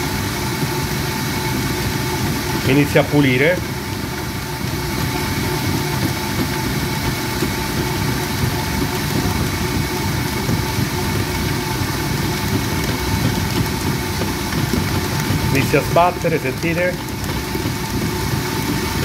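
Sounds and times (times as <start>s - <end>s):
stand mixer motor whining: 0.0s - 19.0s.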